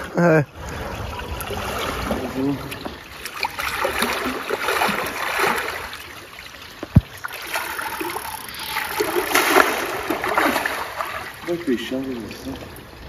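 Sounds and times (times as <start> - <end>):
water splashing around boat: 0.0 - 13.0.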